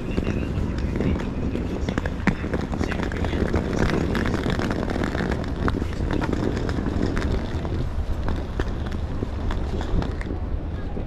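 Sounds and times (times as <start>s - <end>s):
traffic rumble: 0.0s - 11.0s
wind buffeting microphone: 0.0s - 11.0s.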